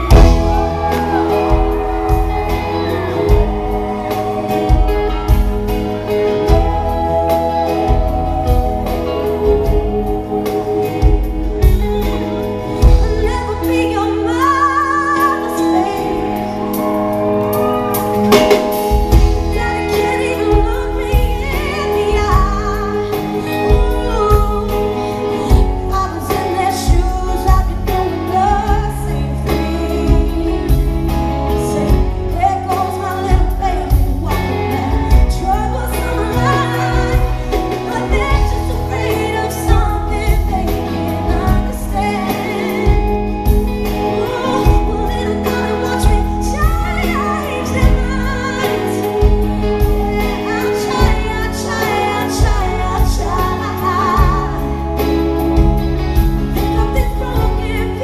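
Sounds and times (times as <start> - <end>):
live band playing pop ballad: 0.0 - 58.0
woman singing: 0.0 - 58.0.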